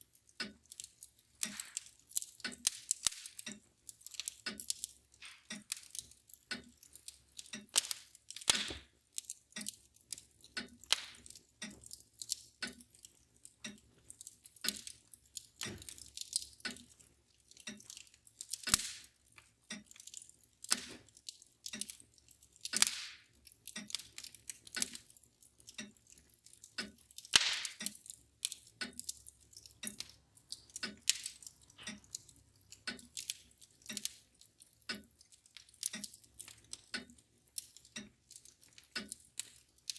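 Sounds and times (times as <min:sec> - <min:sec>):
mantel clock ticking: 0:00.0 - 0:39.9
wood fire crackling: 0:00.0 - 0:39.9.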